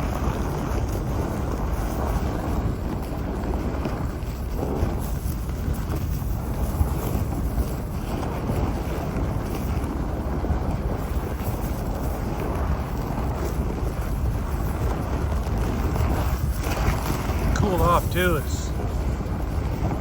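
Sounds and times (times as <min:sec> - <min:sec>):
vehicle engine and tyre rumble: 0:00.0 - 0:17.8, 0:18.4 - 0:20.0
wind noise on microphone: 0:00.0 - 0:20.0.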